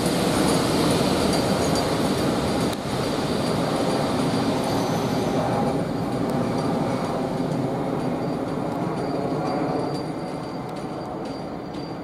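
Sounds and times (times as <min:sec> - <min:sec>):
diesel locomotive engine: 0:00.0 - 0:12.0
wheels on rail: 0:00.0 - 0:12.0.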